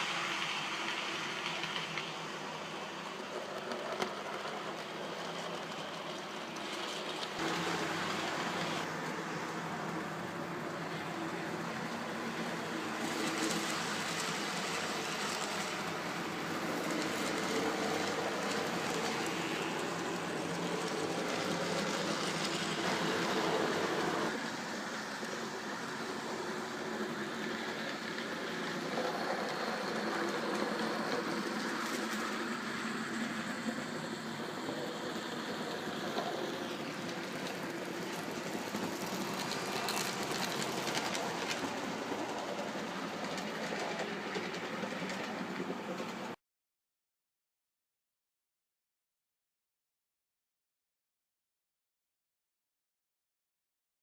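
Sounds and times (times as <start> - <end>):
model train running on track: 0.0 - 46.4.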